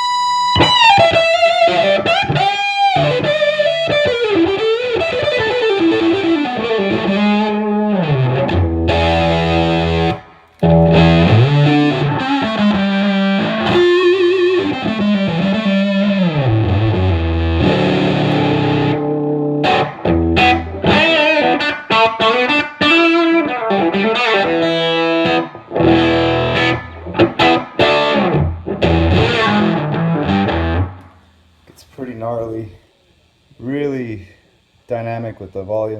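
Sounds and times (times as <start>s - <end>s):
distorted electric guitar riffs: 0.0s - 31.4s.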